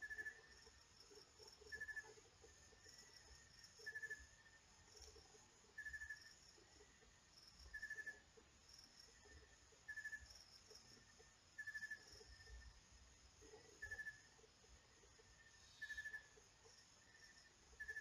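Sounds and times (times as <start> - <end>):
faint trilled chirps: 0.0 - 18.0.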